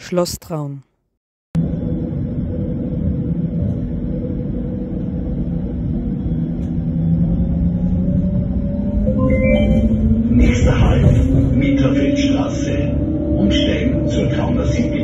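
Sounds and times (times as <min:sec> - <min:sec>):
tram rumbling on rails: 0:01.6 - 0:15.0.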